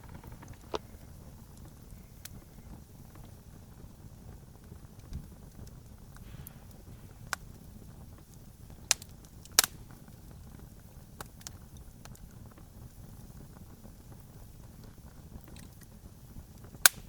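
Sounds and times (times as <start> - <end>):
burning wood popping: 0.0 - 17.0
low rumble of fire: 0.0 - 17.0.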